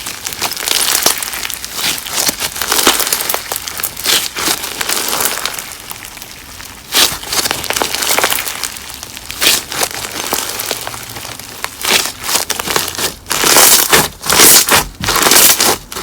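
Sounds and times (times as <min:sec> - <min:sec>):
slime crackling and popping: 0:00.0 - 0:16.0.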